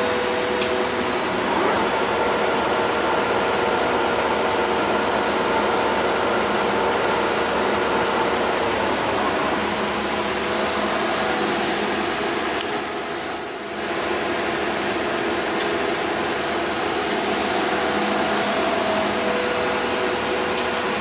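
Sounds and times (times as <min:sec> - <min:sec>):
lathe mechanical whir: 0:00.0 - 0:21.0.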